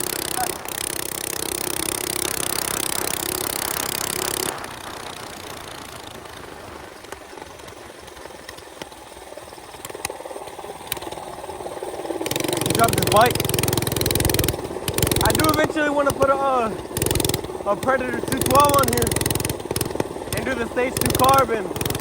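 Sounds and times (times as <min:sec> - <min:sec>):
minibike engine running: 0:00.0 - 0:22.0
scattered clicks: 0:00.0 - 0:22.0.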